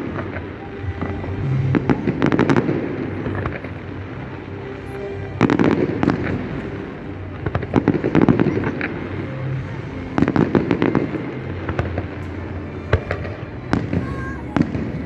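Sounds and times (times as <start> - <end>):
continuous low rumble: 0.0 - 15.0.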